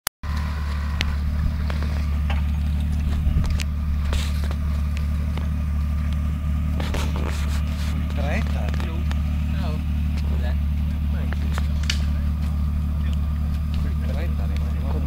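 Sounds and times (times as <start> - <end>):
engine idling: 0.2 - 15.0.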